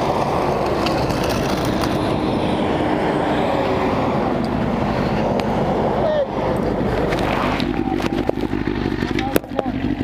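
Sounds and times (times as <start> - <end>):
vehicle engine noise: 0.0 - 10.0.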